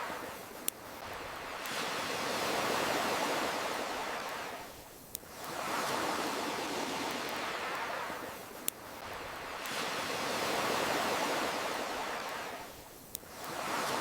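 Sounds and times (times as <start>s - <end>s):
campfire crackle: 0.0s - 14.0s
ocean waves washing in: 0.0s - 14.0s.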